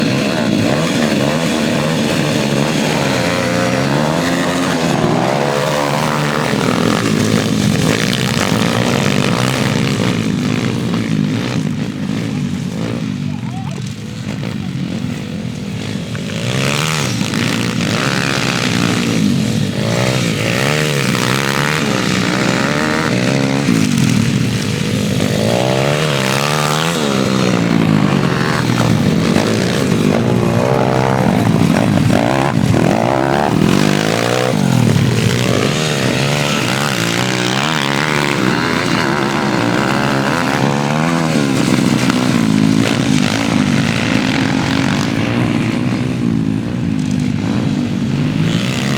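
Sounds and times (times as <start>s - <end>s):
pit bike engine revving: 0.0s - 48.9s.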